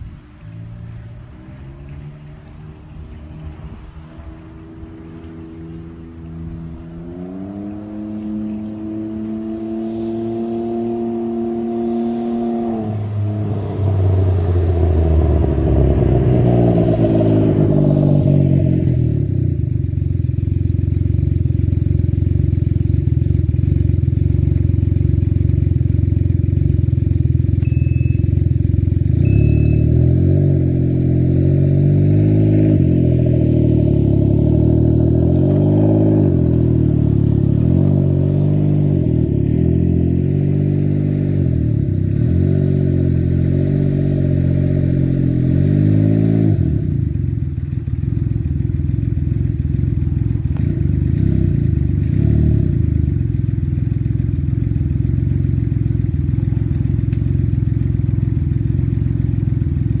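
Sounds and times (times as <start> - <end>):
engine revving and idling: 0.8 - 60.0.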